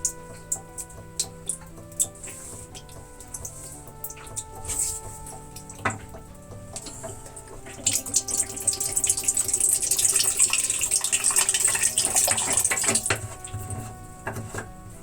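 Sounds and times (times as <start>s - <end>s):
liquid running and splashing: 0.0s - 15.0s.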